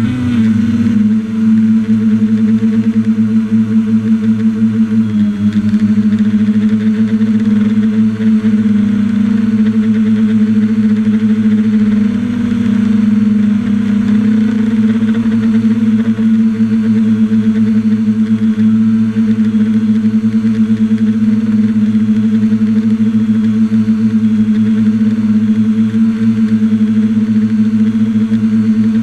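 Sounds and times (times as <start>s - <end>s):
drone motors humming: 0.0s - 29.0s.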